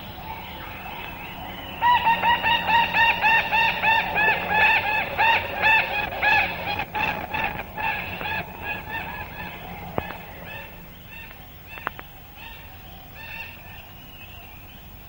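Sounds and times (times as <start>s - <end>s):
parakeets calling noisily: 0.0s - 14.4s
soft background bird calls: 0.0s - 15.0s.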